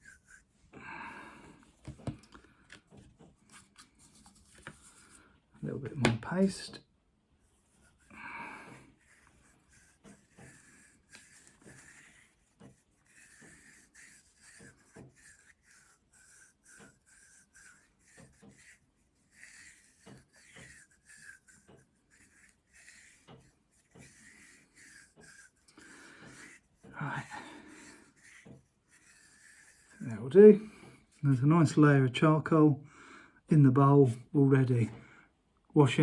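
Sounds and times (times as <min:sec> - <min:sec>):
rubbing and scraping in pipe bowl: 0:00.0 - 0:06.7, 0:07.4 - 0:32.6.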